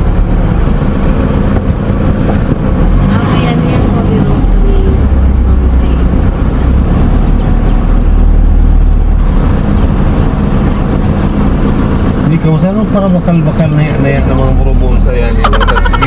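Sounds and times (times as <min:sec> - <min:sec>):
car engine and road rumble: 0:00.0 - 0:16.0
pitched engine hum: 0:00.0 - 0:16.0.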